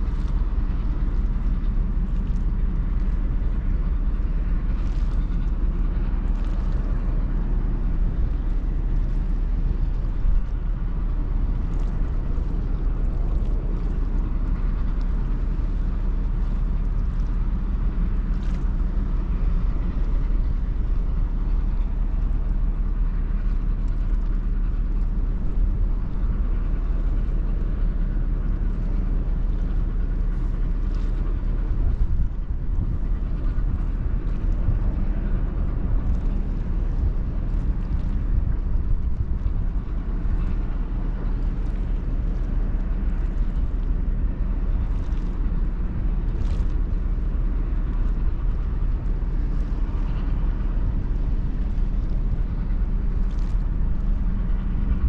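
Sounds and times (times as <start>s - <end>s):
ship engine rumble: 0.0s - 55.0s
wind noise on microphone: 0.0s - 55.0s.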